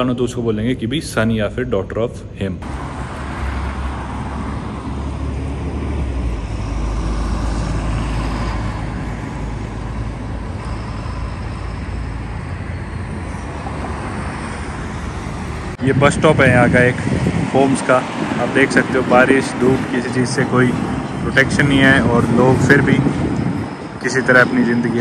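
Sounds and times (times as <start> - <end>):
road traffic passing: 0.0 - 25.0
bus driving by: 2.6 - 25.0.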